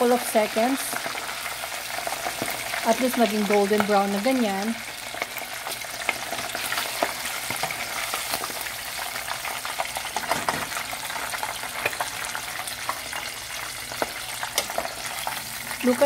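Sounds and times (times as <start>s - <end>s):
oil sizzling and crackling: 0.0s - 16.0s.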